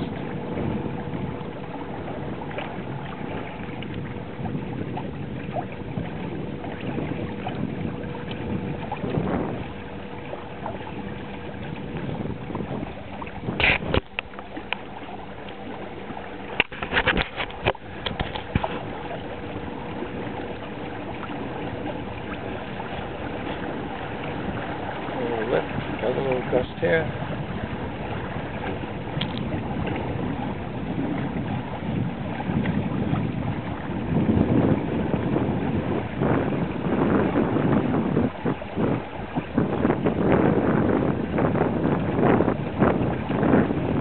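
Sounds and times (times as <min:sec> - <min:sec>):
water rushing: 0:00.0 - 0:44.0.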